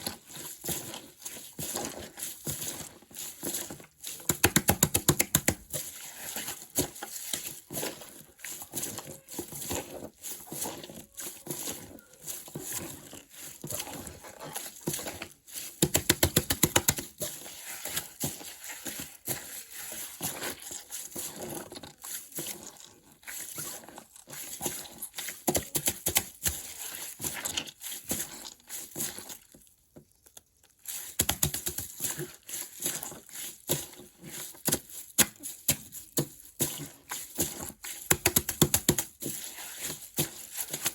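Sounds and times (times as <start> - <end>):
plastic bag with water crinkling: 0.0 - 40.9.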